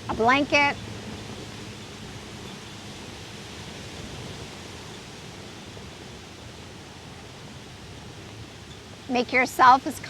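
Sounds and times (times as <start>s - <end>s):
wind blowing across microphone: 0.0s - 10.0s.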